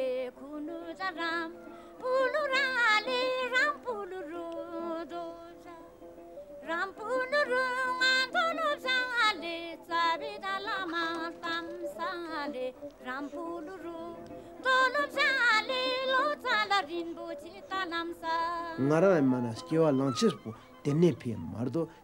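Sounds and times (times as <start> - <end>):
person singing devotional song: 0.0 - 22.0.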